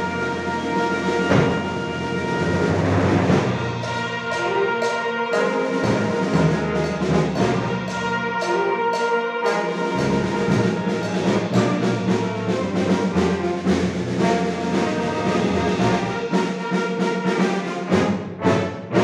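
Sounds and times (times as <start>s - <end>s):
brass band playing lively music: 0.0s - 19.0s.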